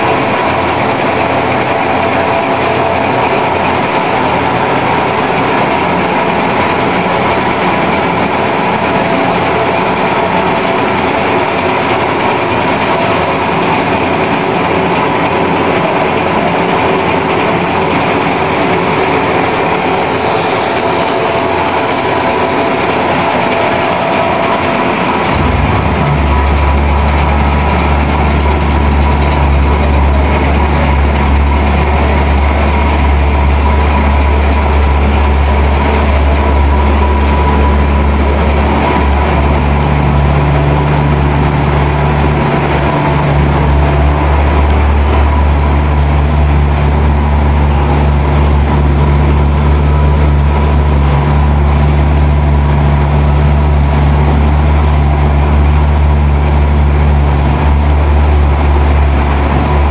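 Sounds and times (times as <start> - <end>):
higher hum note: 0.0 - 56.4
faint high whine: 0.0 - 59.9
machinery low hum: 0.0 - 59.9.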